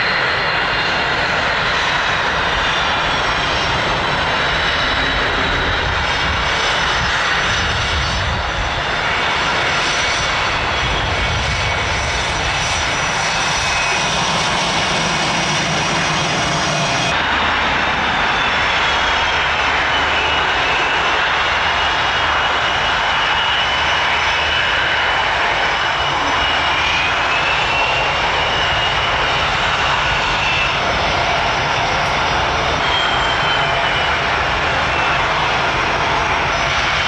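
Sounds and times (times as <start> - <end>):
jet engines running with whine: 0.0 - 37.0.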